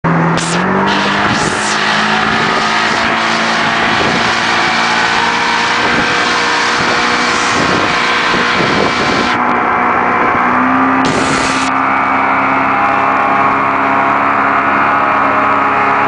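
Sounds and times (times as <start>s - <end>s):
motorboat engine drone: 0.0s - 16.0s
rushing noise: 0.1s - 13.3s.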